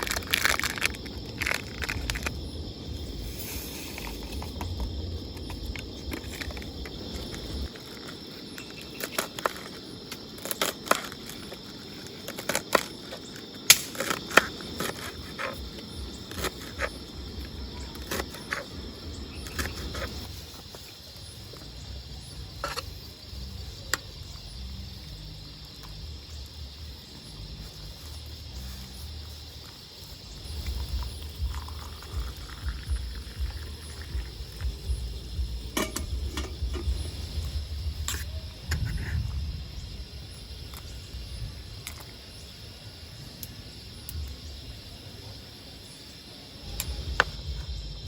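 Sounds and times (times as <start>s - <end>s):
insect chirring: 0.0s - 48.0s.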